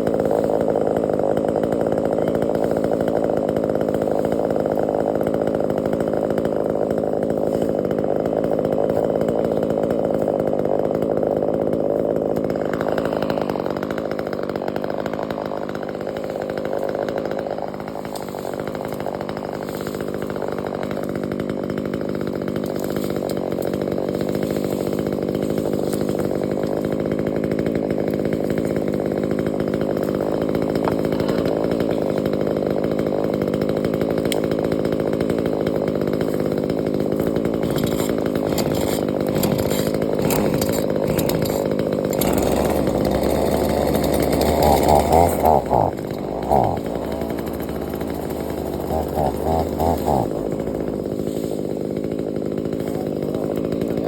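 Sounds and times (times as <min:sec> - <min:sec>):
chainsaw engine running: 0:00.0 - 0:54.0.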